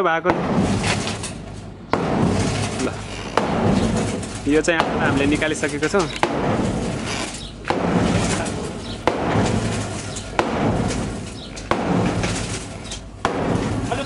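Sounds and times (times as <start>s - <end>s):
hammer striking steel sheet: 0.3s - 14.0s.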